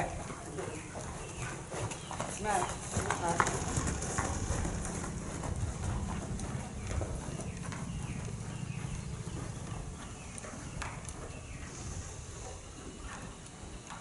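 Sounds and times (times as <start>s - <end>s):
horse hoofbeats on sand: 0.0s - 14.0s
low steady rumble: 2.4s - 14.0s.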